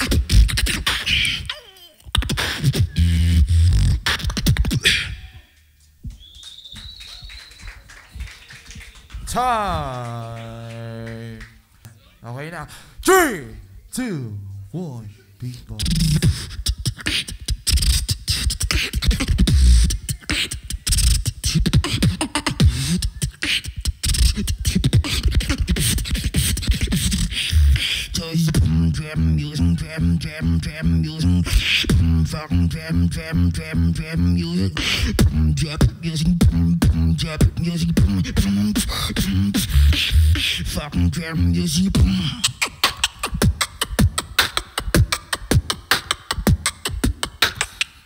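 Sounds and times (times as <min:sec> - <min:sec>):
beatboxing mouth percussion: 0:00.0 - 0:06.3, 0:15.5 - 0:48.0.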